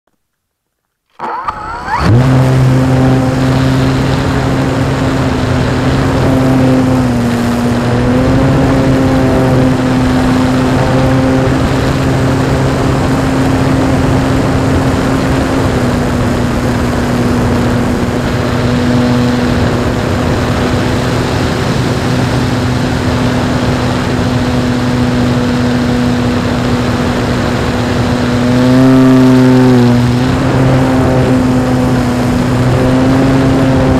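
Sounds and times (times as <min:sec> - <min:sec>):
model plane electric motor drone: 0:01.1 - 0:33.9.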